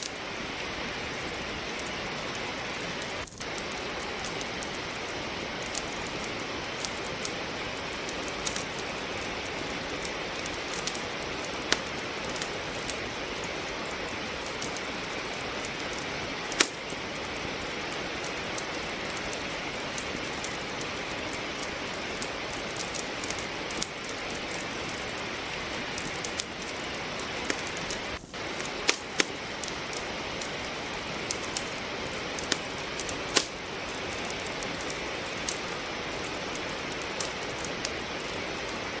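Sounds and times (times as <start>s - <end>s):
logs crackling in a fireplace: 0.0s - 39.0s
steady rain: 0.0s - 39.0s.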